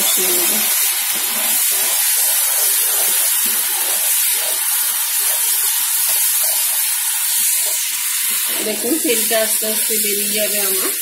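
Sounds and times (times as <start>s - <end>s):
spice paste sizzling in oil: 0.0s - 11.0s.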